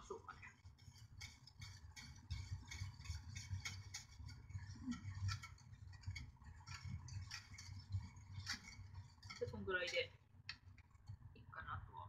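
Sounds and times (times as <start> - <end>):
whisk ticking against a pan: 0.0 - 11.4.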